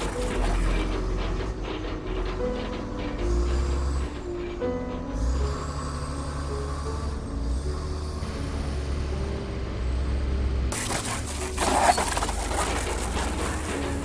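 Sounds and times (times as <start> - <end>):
shredder grinding and crunching: 0.0 - 9.3, 10.7 - 14.0
shredder machine drone: 0.0 - 14.0.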